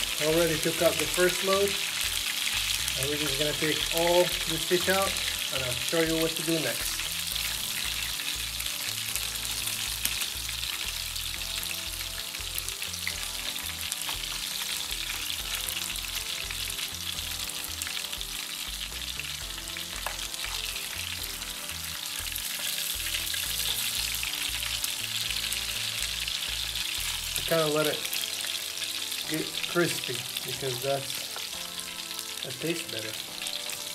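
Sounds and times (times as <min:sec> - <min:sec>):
fish sizzling in hot oil: 0:00.0 - 0:33.9.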